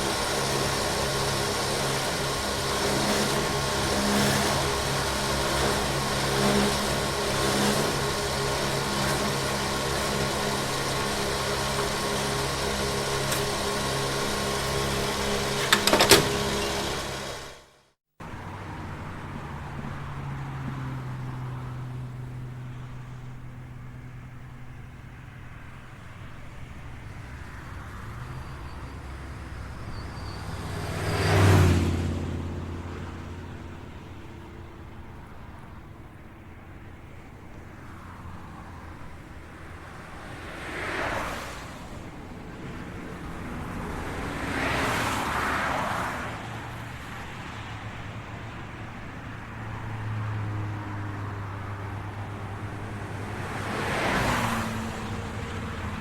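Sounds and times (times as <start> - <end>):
motor vehicles passing: 0.0 - 56.0
traffic hum: 0.0 - 56.0.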